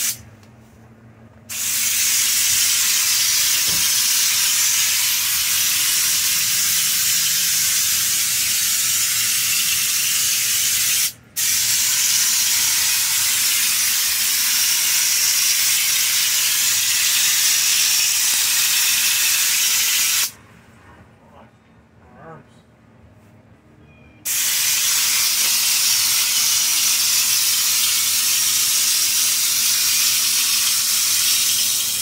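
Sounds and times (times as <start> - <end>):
spray gun hissing: 1.5 - 20.3, 24.3 - 32.0.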